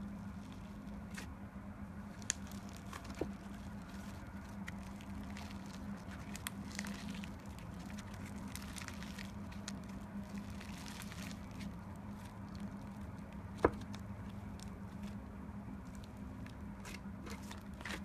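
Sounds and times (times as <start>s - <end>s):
slime squished by hands: 0.0s - 1.3s, 2.0s - 18.0s
steady low hum: 0.0s - 18.0s.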